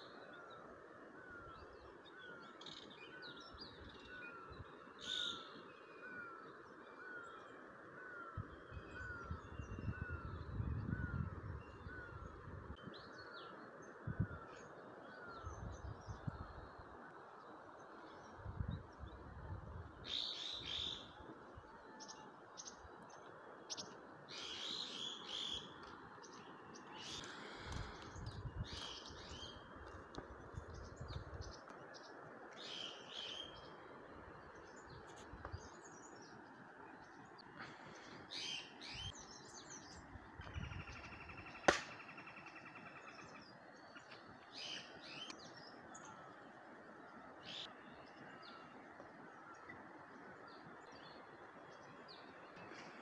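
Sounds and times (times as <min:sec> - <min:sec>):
birds chirping and tweeting: 0:00.0 - 0:53.0.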